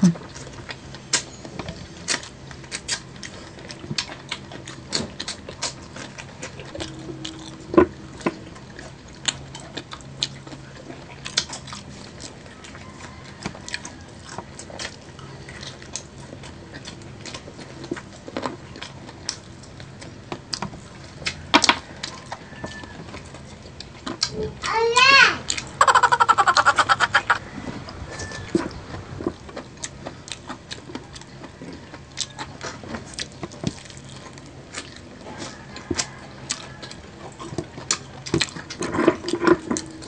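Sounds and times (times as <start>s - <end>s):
crunching and chewing: 0.0s - 40.0s.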